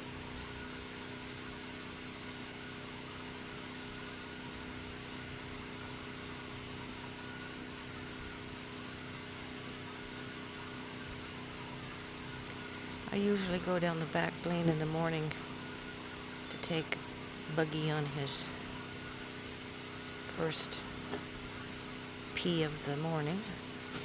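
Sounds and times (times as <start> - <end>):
distant machine engine drone: 1.4 - 24.0.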